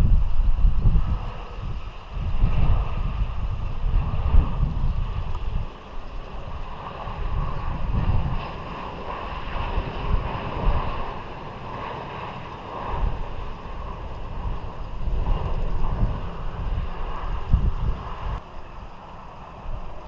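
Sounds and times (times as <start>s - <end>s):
distant jet engines rushing: 0.0s - 20.0s
wind buffeting microphone: 0.0s - 20.0s.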